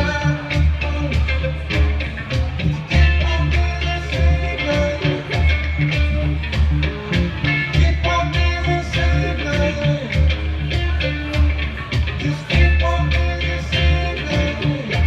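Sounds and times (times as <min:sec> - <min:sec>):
heavy bass line: 0:00.0 - 0:15.0
held pitched notes: 0:00.0 - 0:15.0
steady drum beat: 0:00.0 - 0:15.0.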